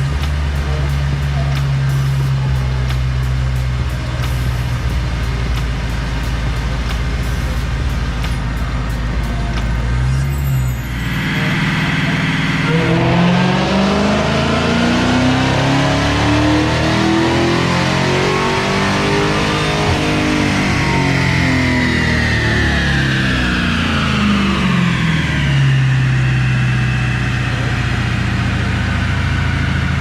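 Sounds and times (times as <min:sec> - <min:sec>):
car engine revving at full throttle: 0:00.0 - 0:30.0.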